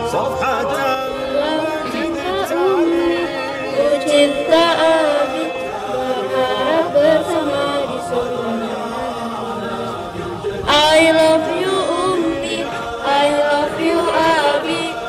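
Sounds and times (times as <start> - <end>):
women singing a slow chant: 1.1 - 15.0.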